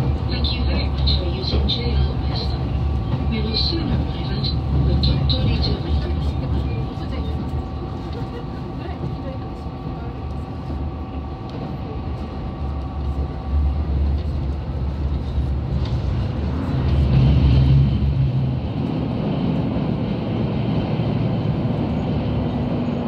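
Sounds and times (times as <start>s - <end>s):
diesel engine drone: 0.0s - 23.0s
wheel and rail noise: 0.0s - 23.0s.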